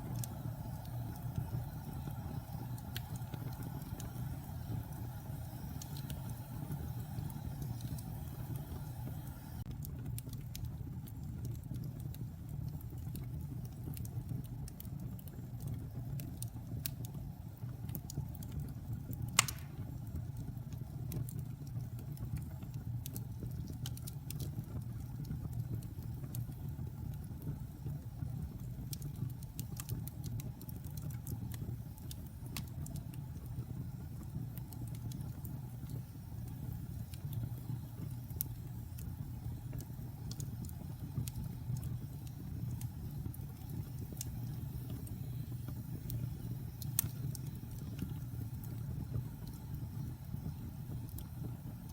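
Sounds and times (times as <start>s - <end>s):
fire popping: 0.0s - 51.9s
wood fire crackling: 0.0s - 51.9s.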